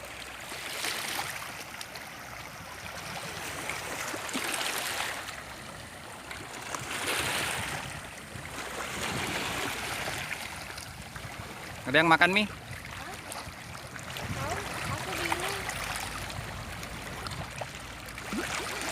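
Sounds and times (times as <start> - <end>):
small waves washing against shore: 0.0 - 18.9.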